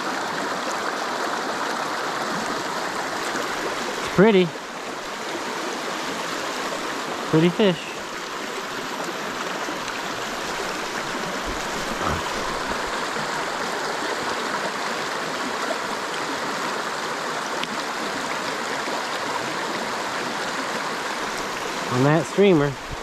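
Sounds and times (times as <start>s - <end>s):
stream water flowing: 0.0s - 23.0s.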